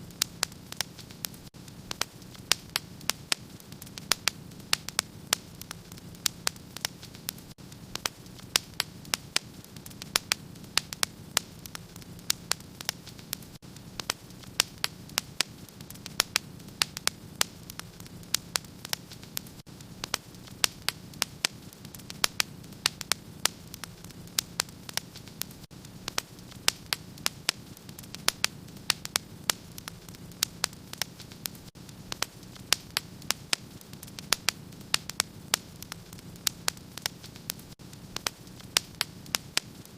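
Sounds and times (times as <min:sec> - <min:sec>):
low noise of flames: 0:00.0 - 0:39.9
wood fire crackling and popping: 0:00.0 - 0:39.9.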